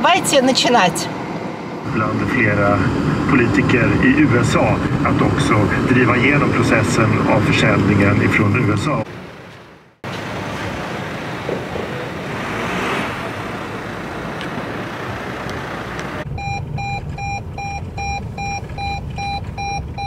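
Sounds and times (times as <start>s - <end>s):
rumbling noise with hiss: 0.0s - 18.7s.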